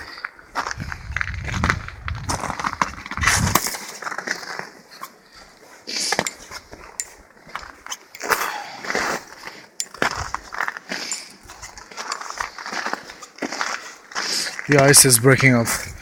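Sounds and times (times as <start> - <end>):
footsteps on ice: 0.0 - 16.0
ice crunching and cracking: 0.1 - 15.8.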